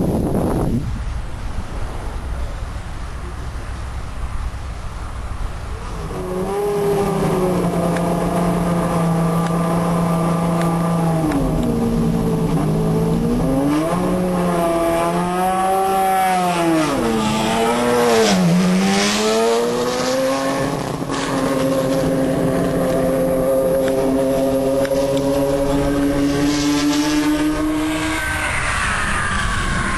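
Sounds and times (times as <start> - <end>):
race car engine: 1.0 - 29.9.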